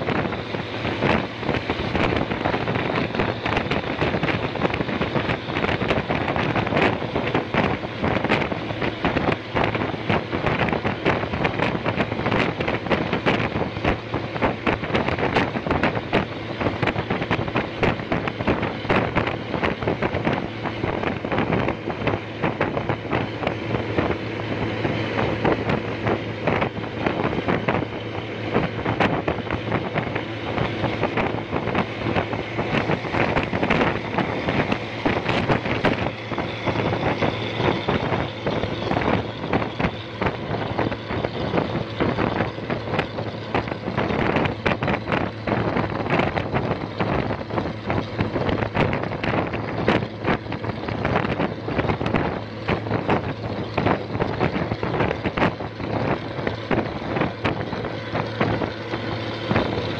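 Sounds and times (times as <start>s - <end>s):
bus engine drone: 0.0s - 59.9s
wind buffeting microphone: 0.0s - 59.9s.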